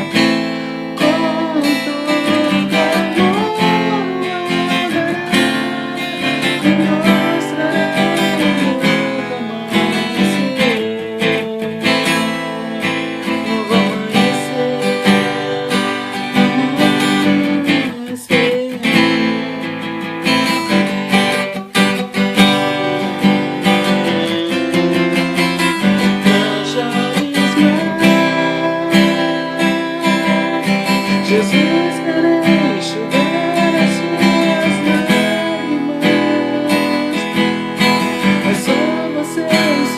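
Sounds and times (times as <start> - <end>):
instrumental melody line: 0.0 - 39.9
strummed acoustic guitar: 0.0 - 39.9.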